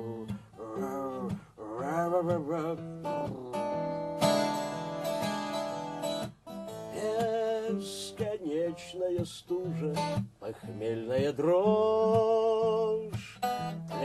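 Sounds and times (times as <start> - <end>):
person singing wordless line: 0.0 - 4.6, 6.8 - 14.0
acoustic guitar strumming: 0.0 - 14.0.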